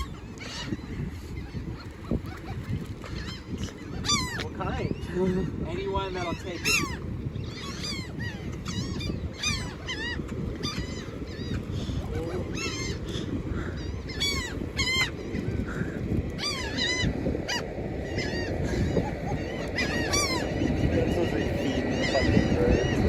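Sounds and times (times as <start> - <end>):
flock of birds calling: 0.0 - 23.0
wind rumble on microphone: 0.0 - 23.0.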